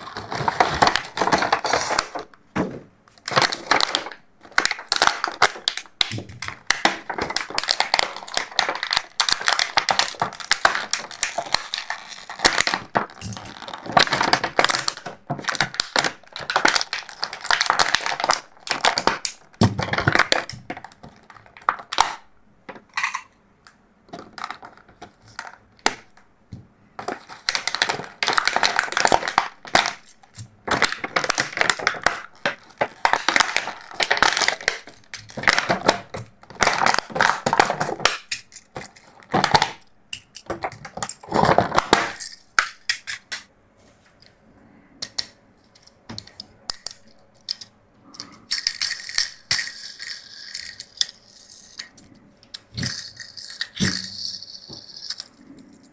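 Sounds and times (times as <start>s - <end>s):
plastic packaging crackling and clicking: 0.0s - 43.5s, 45.0s - 55.9s.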